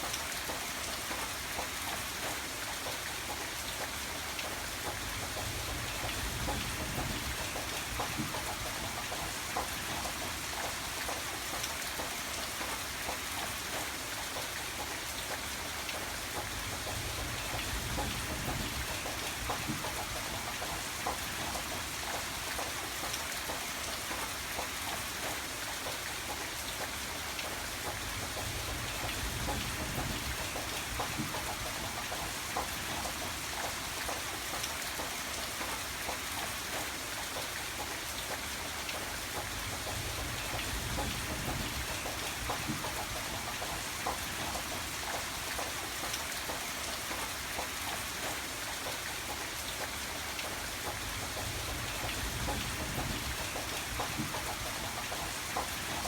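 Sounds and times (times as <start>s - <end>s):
raindrops pattering on a surface: 0.0s - 56.0s.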